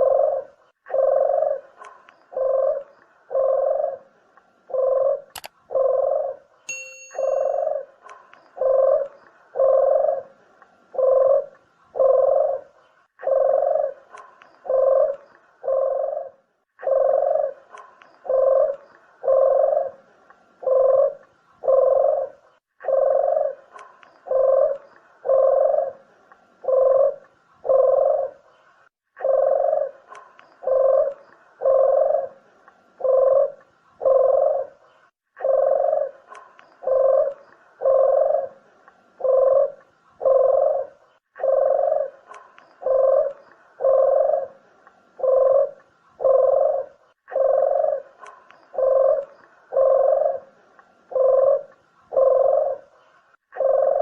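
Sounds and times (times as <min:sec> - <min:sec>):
dove cooing: 0:00.0 - 0:28.5, 0:29.2 - 0:54.0.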